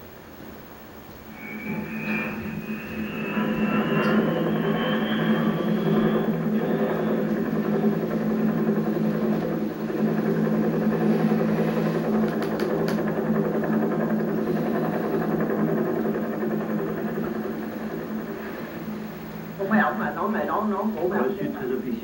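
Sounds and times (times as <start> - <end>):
vehicle engine humming: 0.0 - 19.7.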